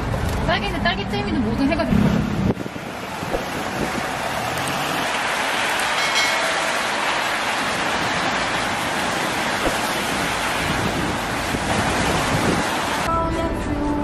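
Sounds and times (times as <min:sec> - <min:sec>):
traffic hiss on wet street: 0:00.0 - 0:13.1.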